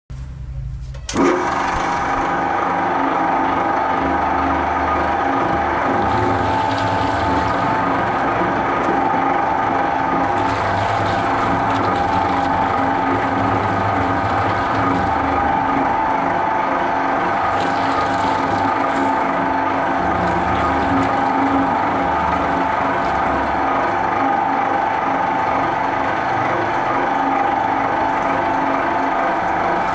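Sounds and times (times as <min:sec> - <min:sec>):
shredder motor whine: 0:01.1 - 0:29.9
shredder rotors grinding: 0:01.1 - 0:29.9.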